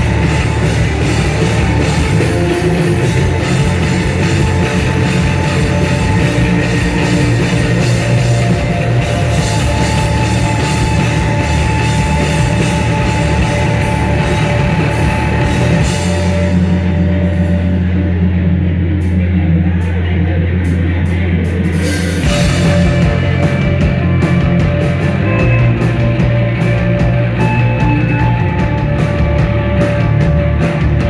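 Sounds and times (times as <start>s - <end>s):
live rock band playing: 0.0s - 19.4s, 20.6s - 31.0s.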